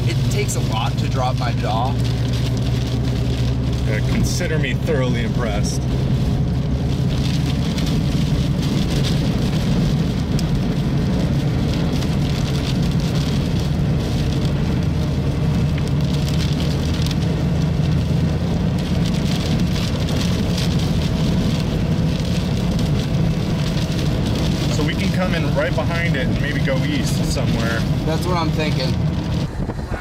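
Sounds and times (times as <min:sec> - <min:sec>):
low vehicle hum: 0:00.0 - 0:30.0
rain falling on a car: 0:00.0 - 0:30.0.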